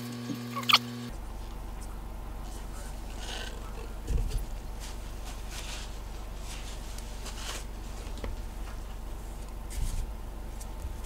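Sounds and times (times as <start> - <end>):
low background hum: 0.0 - 11.0
paper towel rustling: 1.2 - 11.0.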